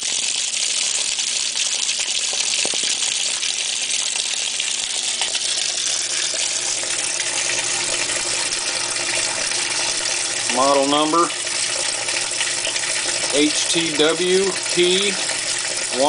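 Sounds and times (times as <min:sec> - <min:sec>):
water gushing into washing machine: 0:00.0 - 0:16.0.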